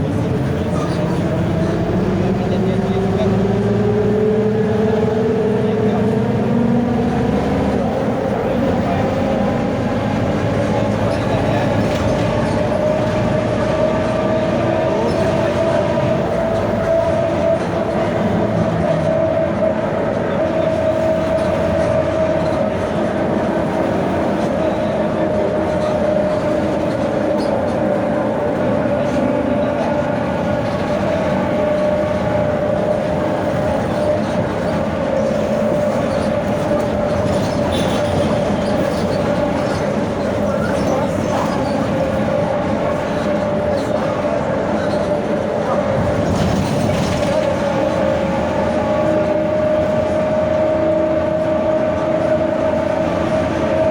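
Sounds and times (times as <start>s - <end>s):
bus differential whining: 0.0s - 53.9s
diesel engine: 0.0s - 53.9s
road rumble: 0.0s - 53.9s.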